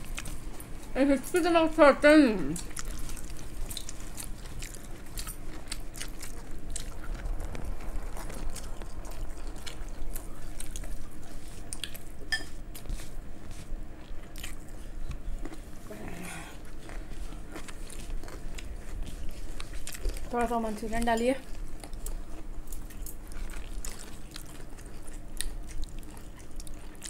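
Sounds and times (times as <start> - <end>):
people chewing: 0.0 - 27.0.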